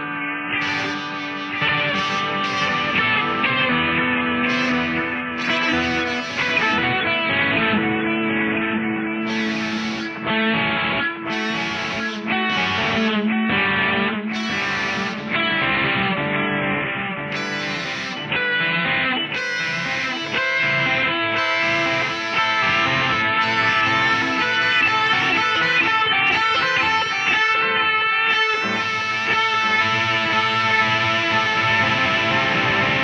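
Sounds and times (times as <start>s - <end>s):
plucked guitar music: 0.0s - 33.0s.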